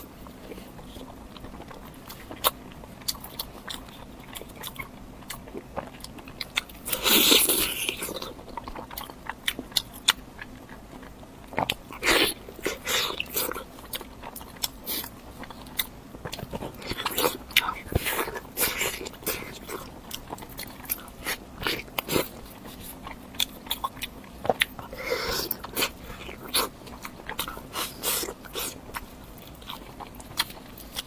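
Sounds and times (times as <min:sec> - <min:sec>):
crunchy eating and chewing: 0:00.0 - 0:31.0.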